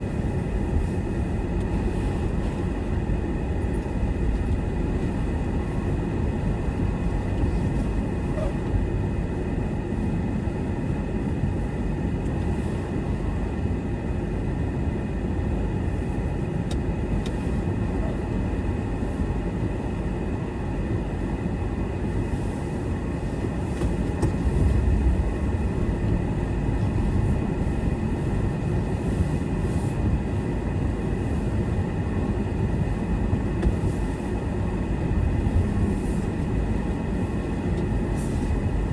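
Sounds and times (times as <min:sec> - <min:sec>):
car road rumble: 0:00.0 - 0:38.9.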